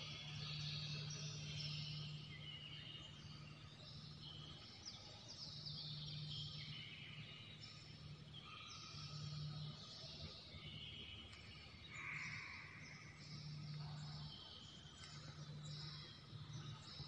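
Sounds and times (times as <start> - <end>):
birds chirping and twittering: 0.0 - 17.0
low steady hum: 0.0 - 17.0.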